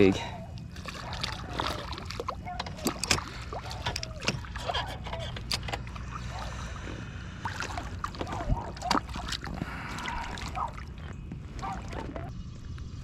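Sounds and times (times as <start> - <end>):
steady low rumble: 0.0 - 13.0
small water splashes: 0.3 - 5.0, 5.6 - 12.3.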